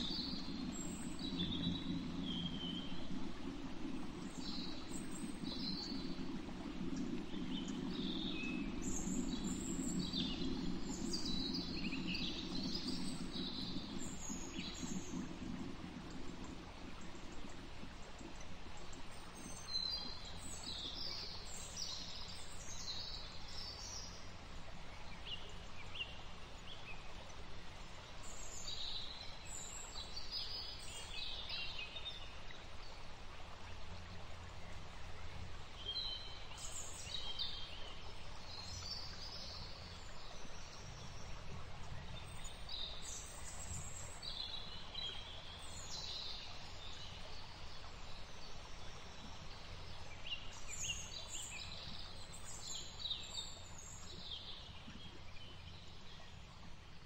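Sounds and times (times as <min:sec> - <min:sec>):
low outdoor background noise: 0:00.0 - 0:57.0.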